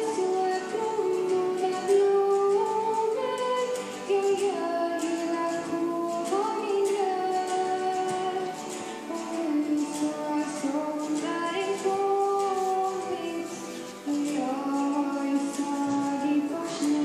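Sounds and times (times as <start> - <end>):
acoustic guitar strumming: 0.0 - 17.0
girl singing: 0.0 - 17.0.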